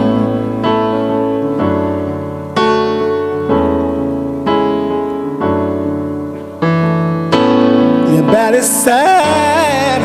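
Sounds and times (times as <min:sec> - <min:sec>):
piano playing slow chords: 0:00.0 - 0:10.0.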